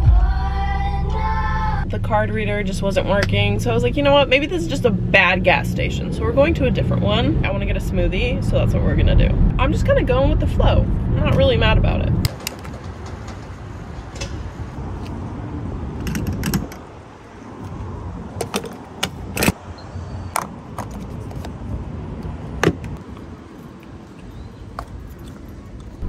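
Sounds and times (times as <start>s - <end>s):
low rumble of traffic: 0.3s - 26.0s.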